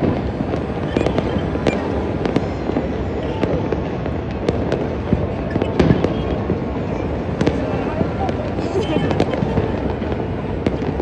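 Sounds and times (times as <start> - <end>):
firecracker sharp cracks: 0.0 - 11.0
fireworks rumbling bangs: 0.0 - 11.0.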